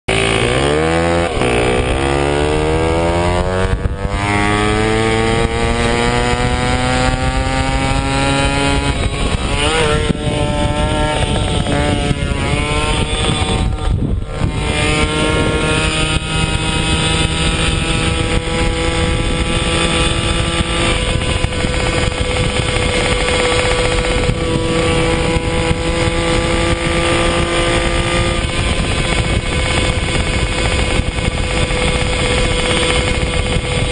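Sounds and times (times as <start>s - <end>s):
moped two-stroke engine revving: 0.1s - 33.9s.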